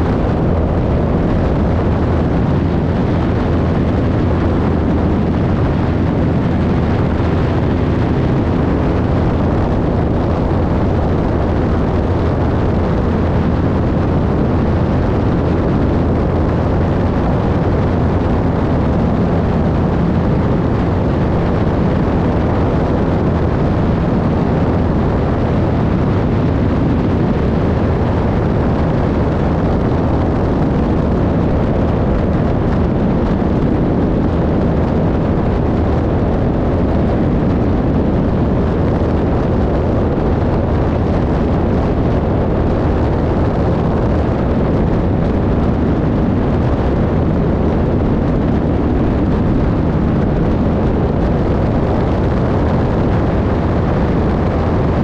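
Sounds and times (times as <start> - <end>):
aircraft engine and propeller drone: 0.0 - 55.0.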